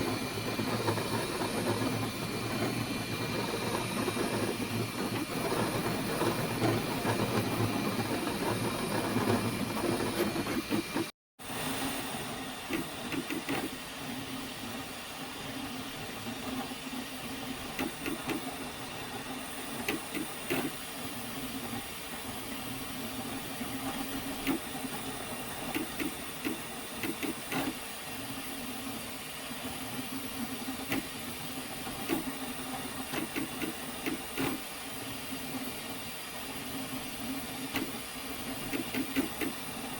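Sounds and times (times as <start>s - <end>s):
printer motors humming: 0.0s - 11.1s, 12.1s - 21.7s, 22.6s - 28.4s, 30.0s - 35.6s, 36.8s - 39.9s
cooling fans hissing: 0.0s - 39.9s.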